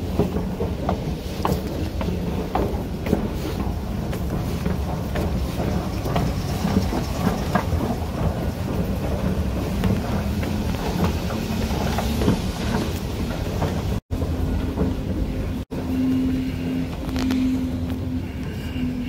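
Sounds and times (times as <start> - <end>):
escalator rumble and hum: 0.0 - 19.0
escalator steps clattering: 0.0 - 19.0.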